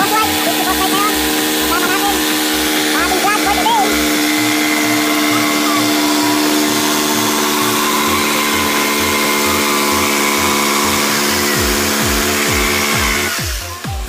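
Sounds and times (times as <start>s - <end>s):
dance remix music: 0.0s - 14.0s.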